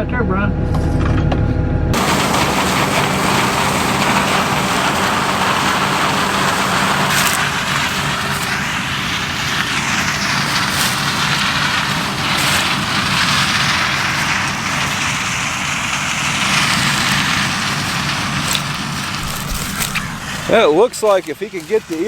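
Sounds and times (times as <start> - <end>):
combine harvester engine humming: 2.0 - 22.0
threshing rushing noise: 2.0 - 22.0.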